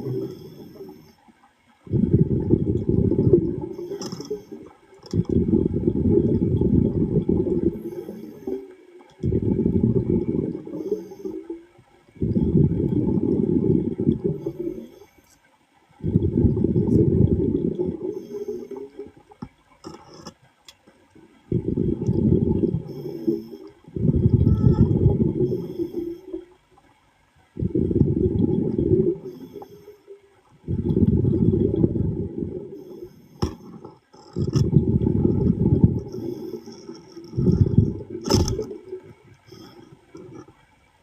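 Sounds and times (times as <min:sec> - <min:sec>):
underwater air bubbling: 0:00.0 - 0:41.0.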